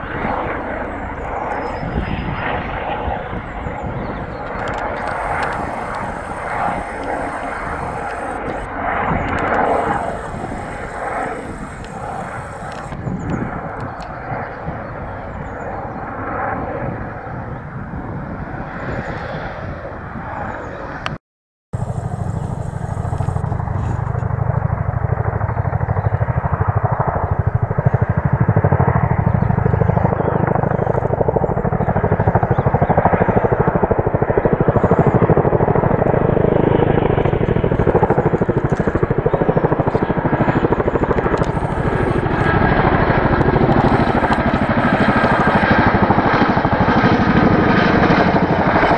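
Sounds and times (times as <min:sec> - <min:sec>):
helicopter rotors beating overhead: 0:00.0 - 0:21.2, 0:21.8 - 0:48.9.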